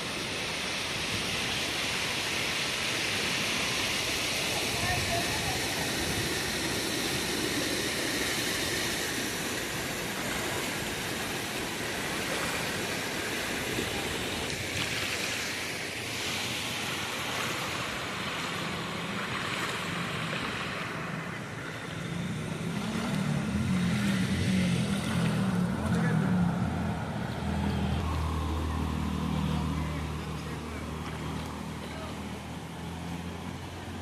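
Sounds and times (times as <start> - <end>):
floodwater pouring over causeway: 0.0 - 34.0
motor engine hum: 0.0 - 34.0.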